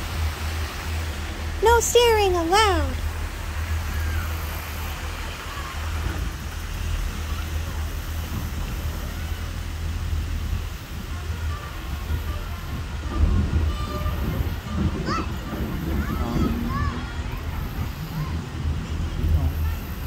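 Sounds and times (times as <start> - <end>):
faint far-off voices: 3.8 - 20.0.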